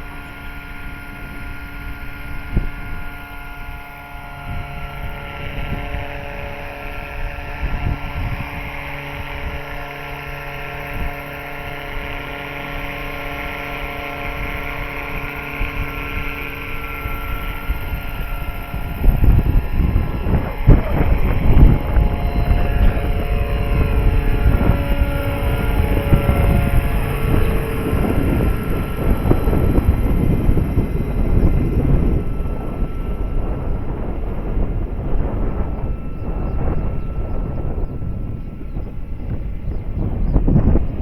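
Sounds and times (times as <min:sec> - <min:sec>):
electric rc helicopter whine: 0:00.0 - 0:41.0
wind buffeting microphone: 0:00.0 - 0:41.0.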